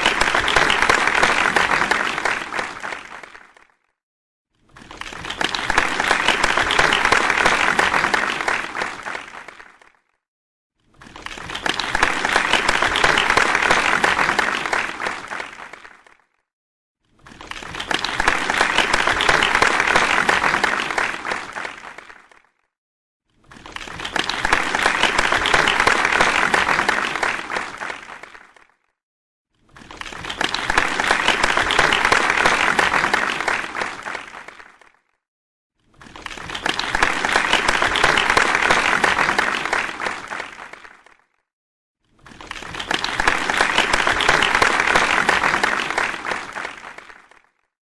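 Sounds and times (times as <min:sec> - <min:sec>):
applause: 0:00.0 - 0:04.0, 0:04.6 - 0:16.5, 0:17.1 - 0:29.0, 0:29.6 - 0:41.5, 0:42.1 - 0:47.8.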